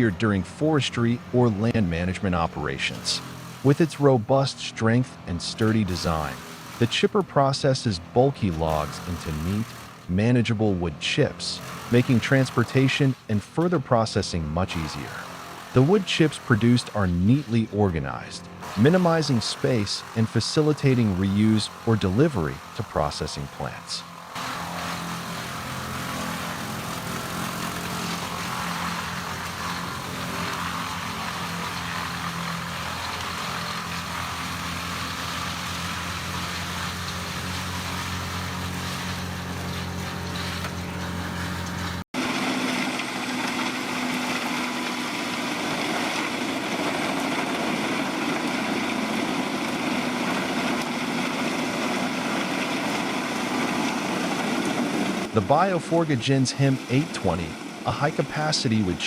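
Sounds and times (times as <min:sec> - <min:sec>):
brush chipper engine humming: 0:00.0 - 0:59.0
wood chipper running: 0:00.0 - 0:59.0.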